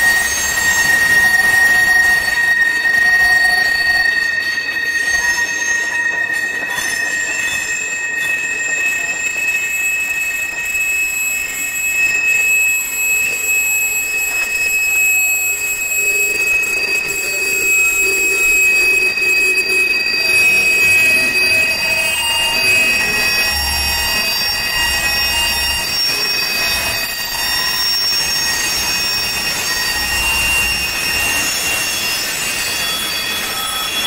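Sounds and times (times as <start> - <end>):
train wheels rolling: 0.0 - 34.0
wheel flanges squealing: 0.0 - 34.0.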